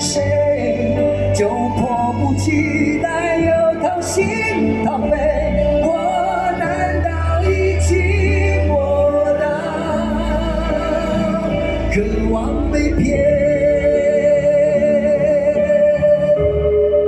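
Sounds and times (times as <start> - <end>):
live band playing pop ballad: 0.0 - 17.0.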